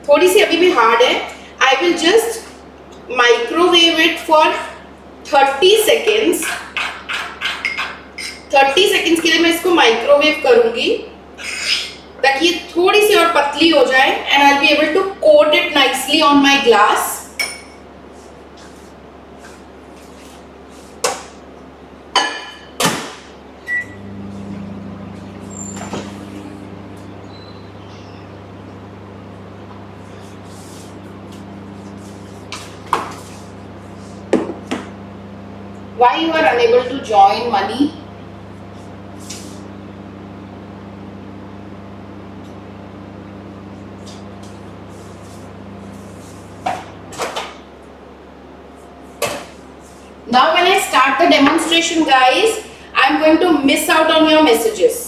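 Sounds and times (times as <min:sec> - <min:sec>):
microwave humming: 0:00.0 - 0:55.0.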